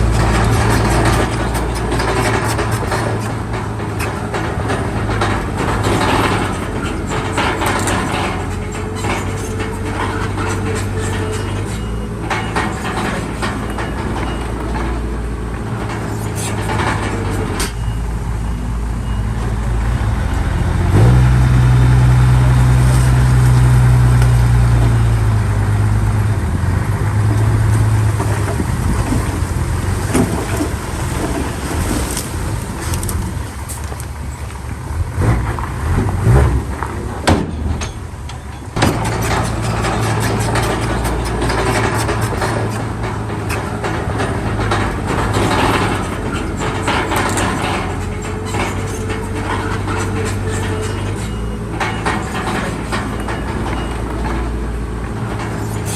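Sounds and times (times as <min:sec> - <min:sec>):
metallic knocks and clanks: 0:00.0 - 0:26.4, 0:35.1 - 0:55.9
diesel machinery engine revving: 0:00.0 - 0:55.9.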